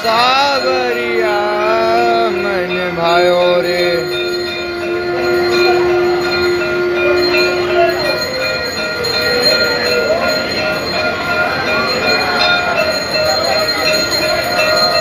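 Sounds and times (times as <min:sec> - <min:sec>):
chanting voices: 0:00.0 - 0:15.0
temple bells ringing: 0:00.0 - 0:15.0
long held note: 0:00.5 - 0:15.0.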